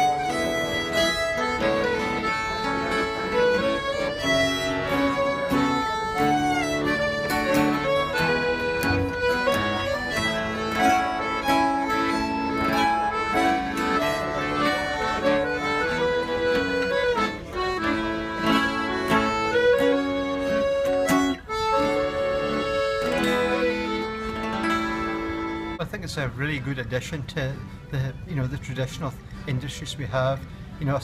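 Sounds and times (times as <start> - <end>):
fiddle tune: 0.0 - 31.0
guitar accompaniment: 0.0 - 31.0.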